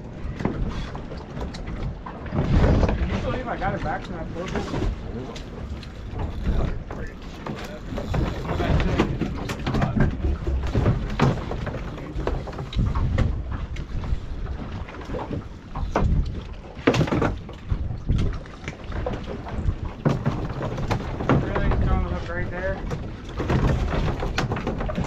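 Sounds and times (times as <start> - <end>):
knocks and splashes: 0.0 - 25.0
water slapping boat hull: 0.0 - 25.0
wind buffeting microphone: 0.0 - 25.0.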